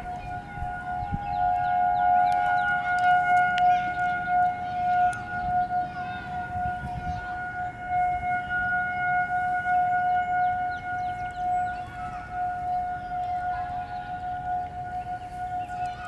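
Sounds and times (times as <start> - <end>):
tornado warning siren: 0.0 - 16.0.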